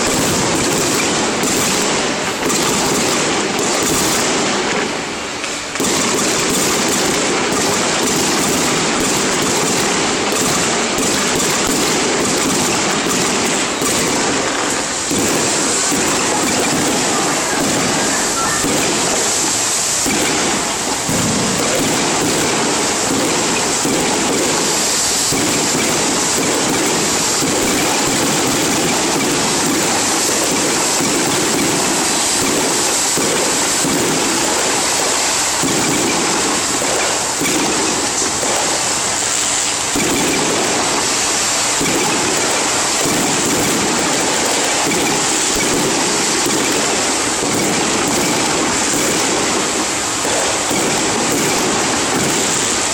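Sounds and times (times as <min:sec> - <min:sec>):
firecrackers crackling: 0:00.0 - 0:52.9.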